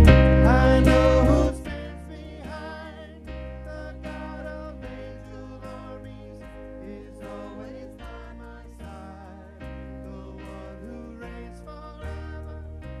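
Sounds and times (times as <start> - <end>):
keyboard chords: 0.0 - 13.0
low bass notes: 0.0 - 13.0.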